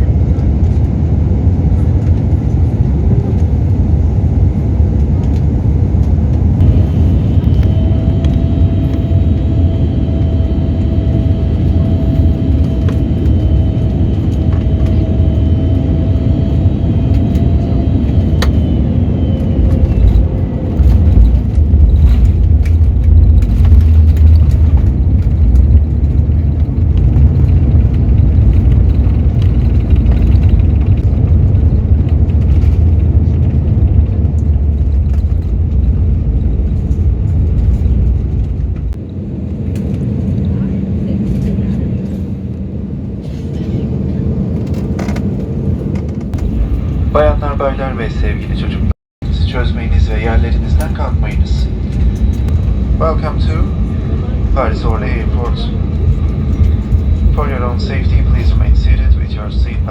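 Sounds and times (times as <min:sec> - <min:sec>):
jet engine rumble: 0:00.0 - 0:59.9
faint whine: 0:06.6 - 0:45.2, 0:46.0 - 0:59.9.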